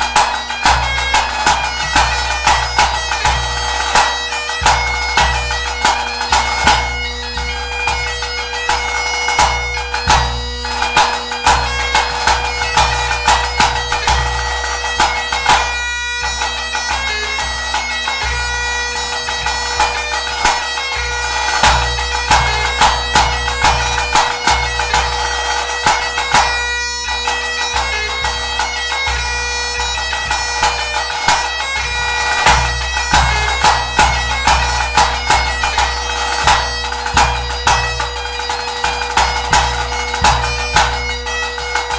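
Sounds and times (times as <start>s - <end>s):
bagpipe playing a tune: 0.0s - 41.9s.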